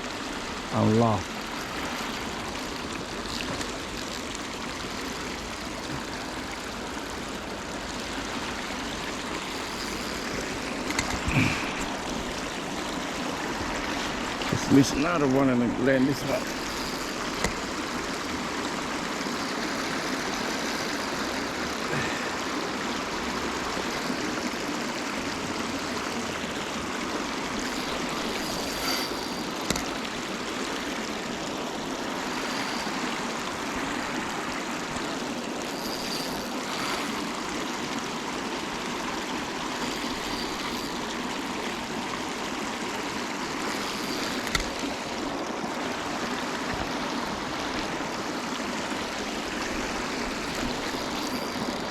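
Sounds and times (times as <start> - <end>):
river water rushing: 0.0 - 51.9.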